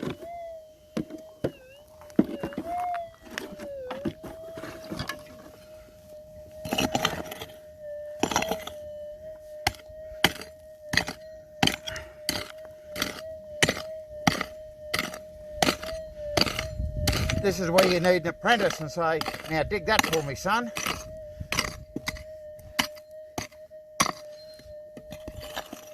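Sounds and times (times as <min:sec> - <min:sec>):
pick digging rocky ground: 0:00.0 - 0:05.6, 0:06.6 - 0:08.8, 0:09.6 - 0:25.9
metal detector threshold hum: 0:00.0 - 0:25.9.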